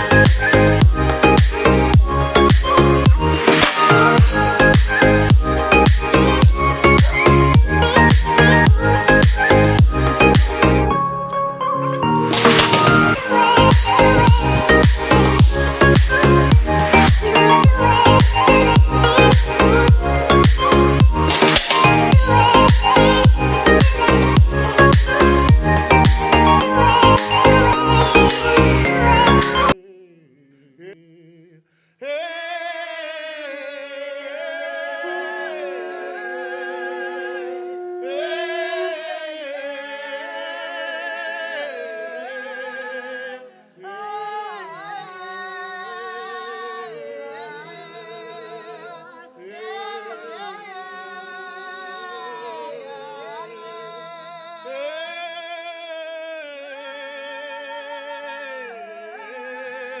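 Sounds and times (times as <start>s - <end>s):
layered singing voices with vibrato: 0.0s - 60.0s.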